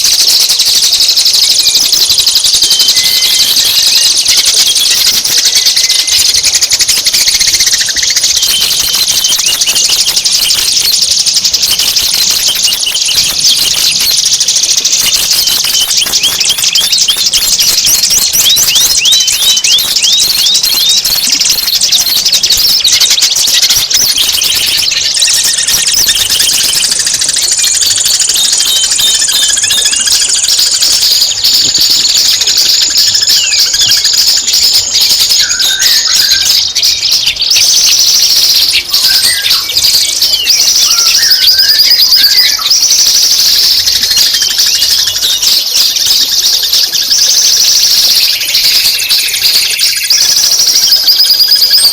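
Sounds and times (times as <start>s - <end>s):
songbird singing: 0.0s - 51.9s.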